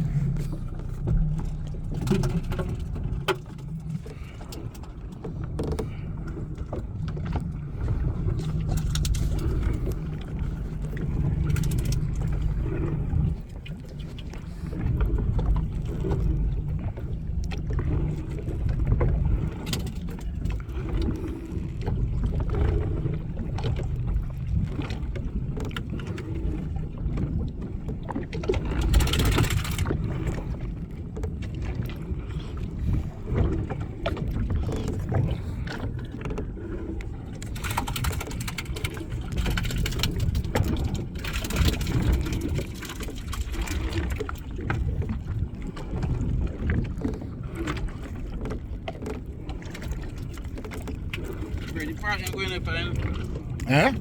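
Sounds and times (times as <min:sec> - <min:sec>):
boat engine low rumble: 0:00.0 - 0:54.0
water and wind noise: 0:00.0 - 0:54.0.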